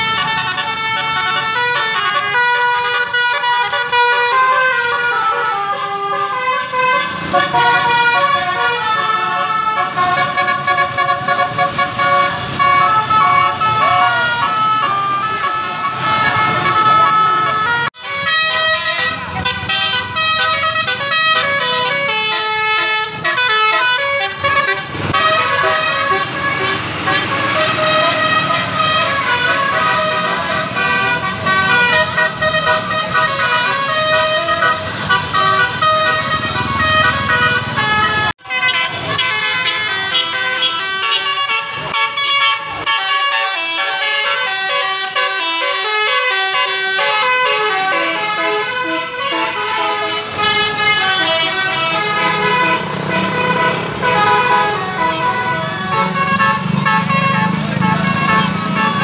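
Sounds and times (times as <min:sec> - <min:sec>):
bus air horns playing melody: 0:00.0 - 0:59.0.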